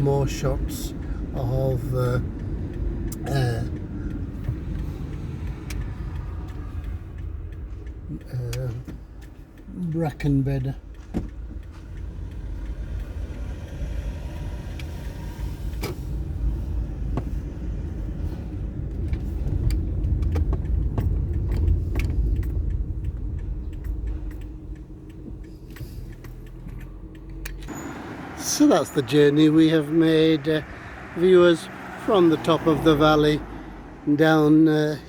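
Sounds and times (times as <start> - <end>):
car engine and road noise: 0.0 - 35.0
loose items rattling in car: 0.0 - 35.0.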